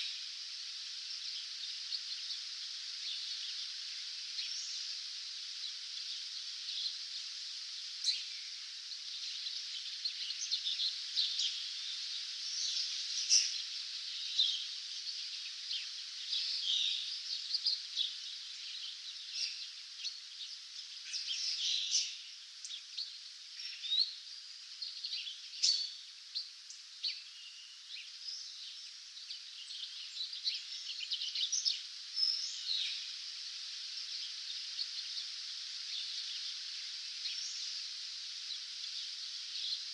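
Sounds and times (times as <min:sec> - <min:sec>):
songbirds chirping and trilling: 0:00.0 - 0:39.9
steady high hiss: 0:00.0 - 0:39.9.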